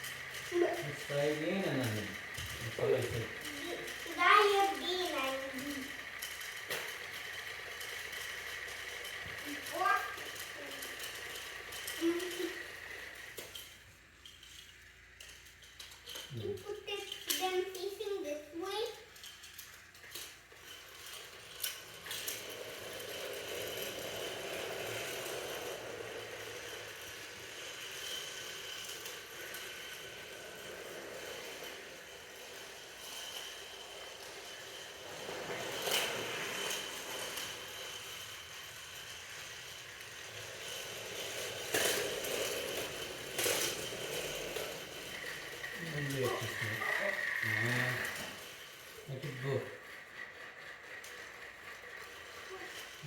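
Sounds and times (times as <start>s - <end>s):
toy train motor whirring: 0.0s - 53.0s.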